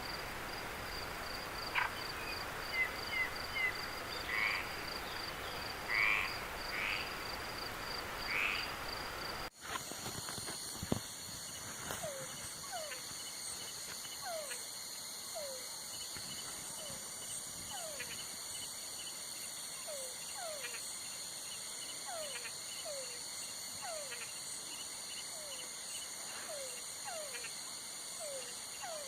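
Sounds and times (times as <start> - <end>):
insect trill: 0.0 - 29.0
frogs calling: 0.9 - 9.3, 11.4 - 29.0.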